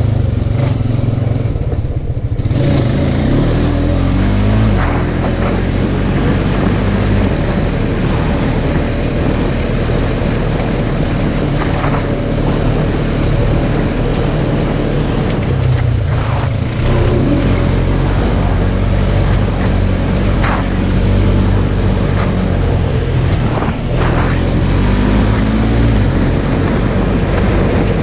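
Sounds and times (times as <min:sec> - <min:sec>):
drivetrain and trail noise: 0:00.0 - 0:28.0
utility vehicle engine running: 0:00.0 - 0:28.0.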